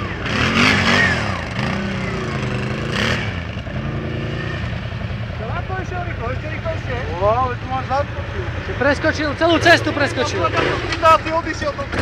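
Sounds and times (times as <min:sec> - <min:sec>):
quad bike engines revving: 0:00.0 - 0:12.0.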